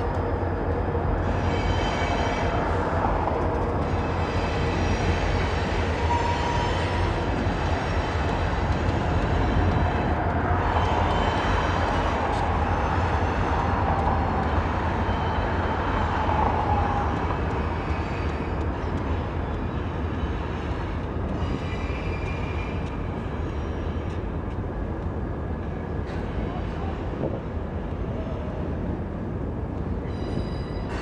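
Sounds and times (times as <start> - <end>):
freight train rumbling past: 0.0 - 31.0
wheel noise on rails: 0.0 - 31.0.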